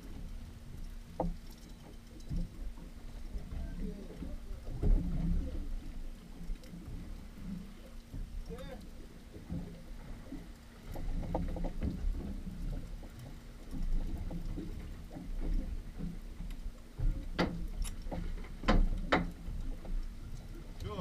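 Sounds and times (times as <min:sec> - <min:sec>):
water lapping against hull: 0:00.0 - 0:21.0.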